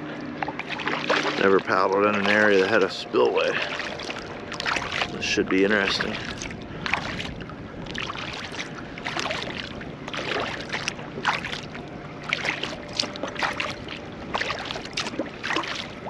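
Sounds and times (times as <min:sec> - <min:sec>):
kayak paddle splashing: 0:00.0 - 0:16.0.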